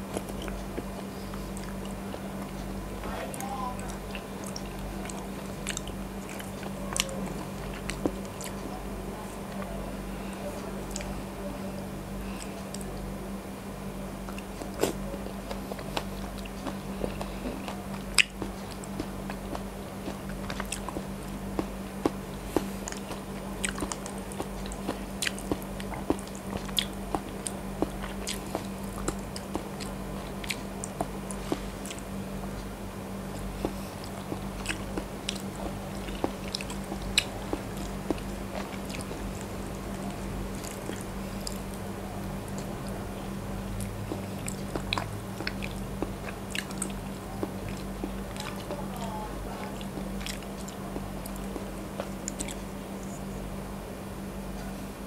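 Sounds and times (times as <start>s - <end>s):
wet chewing and mouth sounds: 0.0s - 13.2s, 14.2s - 53.3s.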